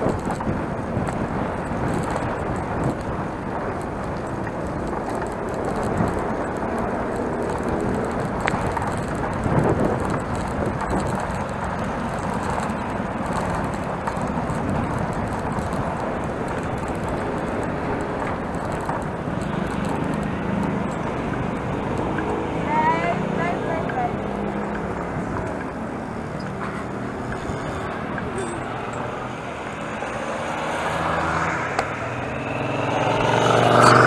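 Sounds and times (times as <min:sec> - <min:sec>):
bicycle tyres on brick paving: 0:00.0 - 0:34.0
road traffic: 0:00.0 - 0:34.0
wind buffeting microphone: 0:00.0 - 0:34.0.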